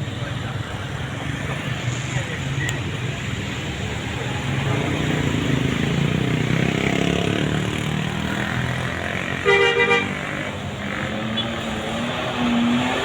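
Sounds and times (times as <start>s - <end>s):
bus engine passing: 0.0s - 13.0s.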